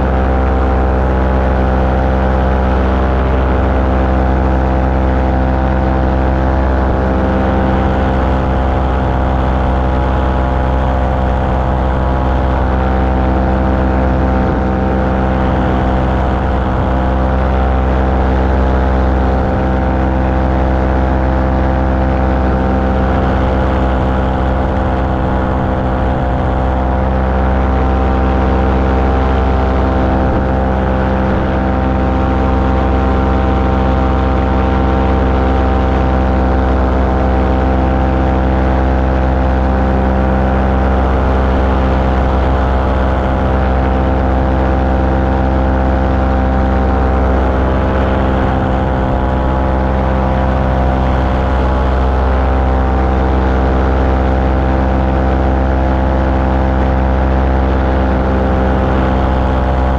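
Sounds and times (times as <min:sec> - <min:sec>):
small aircraft engine droning: 0:00.0 - 0:59.9.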